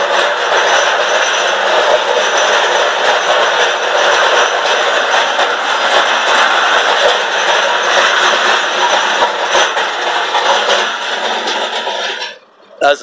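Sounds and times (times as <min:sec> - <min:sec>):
seed drill rattling and clattering: 0:00.0 - 0:12.4
tractor engine running: 0:00.0 - 0:12.6.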